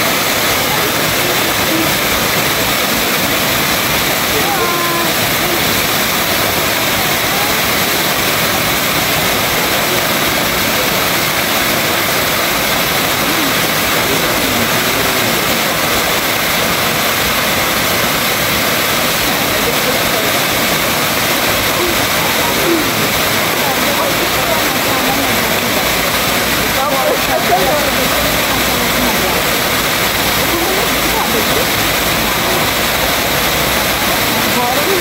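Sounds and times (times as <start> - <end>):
waterfall rushing onto rocks: 0.0 - 35.0.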